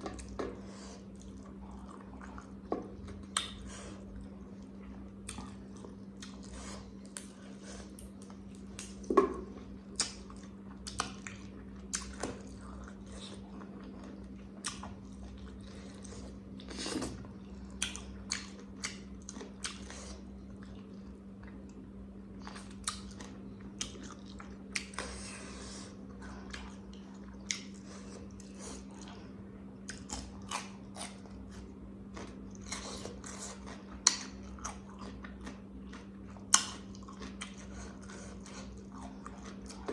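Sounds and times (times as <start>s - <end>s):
person chewing: 0.0s - 21.8s, 22.4s - 39.9s.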